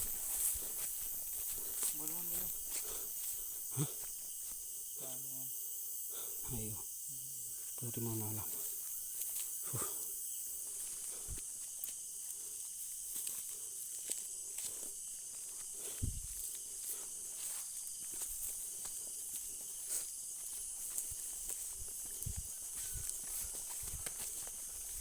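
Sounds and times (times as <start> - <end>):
rustling of corn plants: 0.0 - 4.8, 8.2 - 25.0
footsteps in cornfield: 0.0 - 5.2, 7.6 - 25.0
night insects hissing: 0.0 - 25.0.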